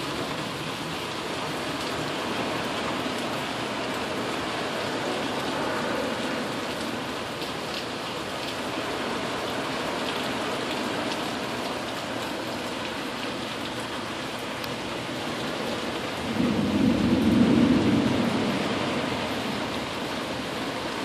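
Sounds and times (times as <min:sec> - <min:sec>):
heavy rain hiss: 0:00.0 - 0:21.0
raindrops ticking: 0:00.0 - 0:21.0.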